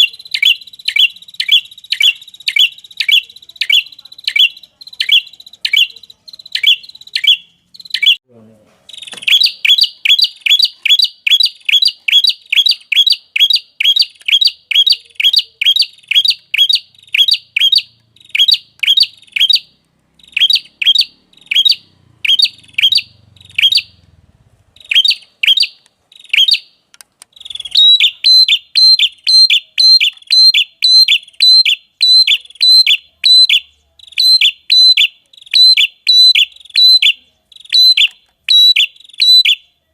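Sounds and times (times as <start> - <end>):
songbird chirping: 0.0 - 8.2, 8.8 - 39.9.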